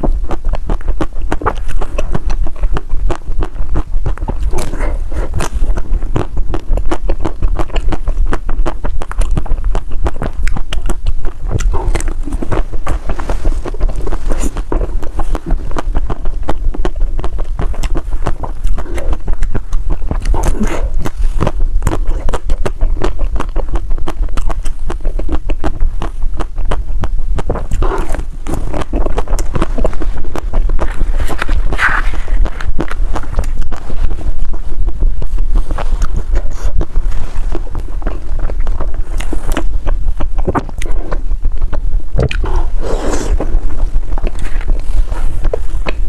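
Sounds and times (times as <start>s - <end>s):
crunchy chewing: 0.0s - 46.0s
low rumble: 0.0s - 46.0s.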